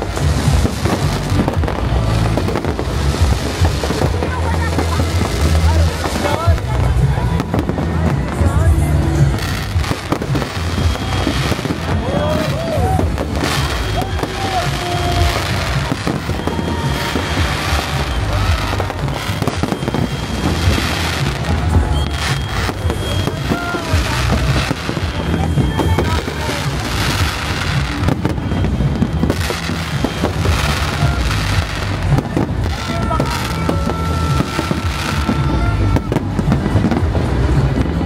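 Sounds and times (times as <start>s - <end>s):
fireworks bursting and crackling: 0.0s - 38.0s
music playing: 0.0s - 38.0s.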